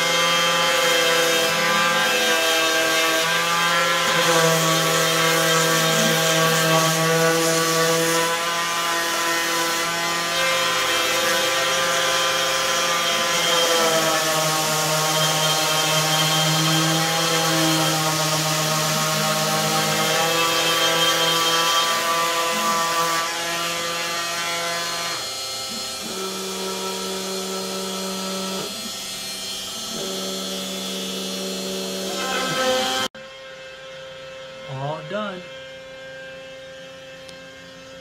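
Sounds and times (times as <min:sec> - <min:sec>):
orbital sander on wood: 0:00.0 - 0:33.4.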